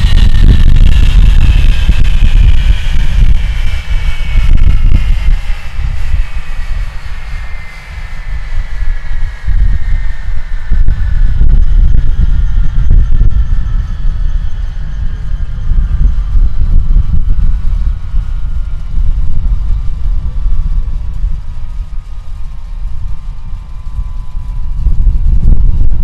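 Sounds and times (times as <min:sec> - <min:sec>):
jet engine rumble: 0:00.0 - 0:26.0
jet engine whine falling in pitch: 0:00.0 - 0:26.0.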